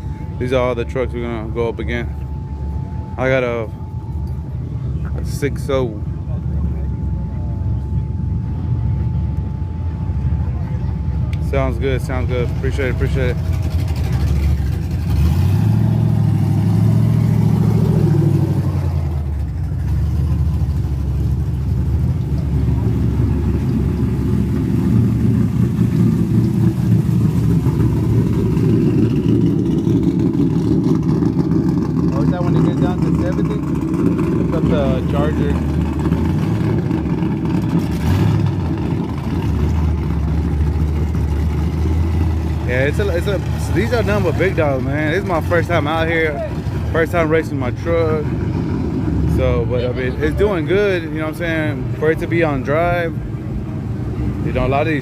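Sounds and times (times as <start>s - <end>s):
pickup truck engine rumble: 0.0s - 55.0s.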